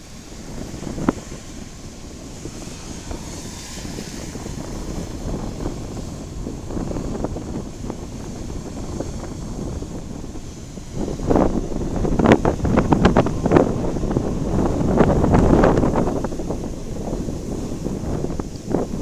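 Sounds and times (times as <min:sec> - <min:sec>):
wind gusting on microphone: 0:00.0 - 0:19.0.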